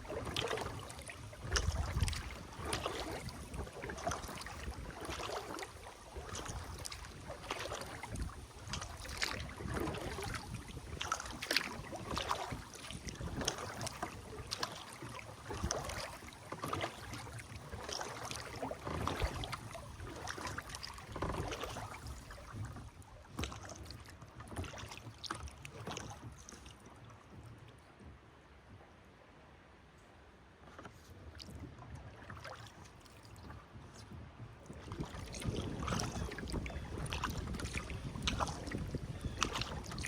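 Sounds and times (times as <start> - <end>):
kayak paddle splashing: 0.0 - 27.9, 30.6 - 40.0.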